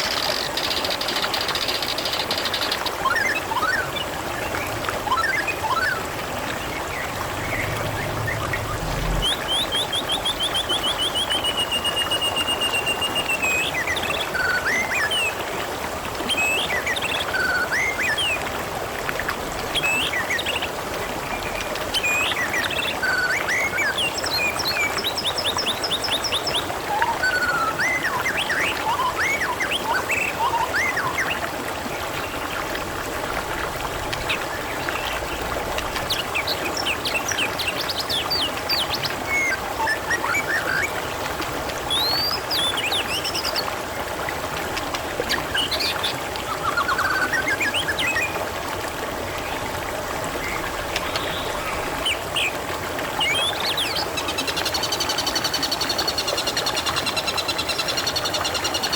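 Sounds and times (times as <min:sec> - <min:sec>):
water trickling and splashing: 0:00.0 - 0:58.9.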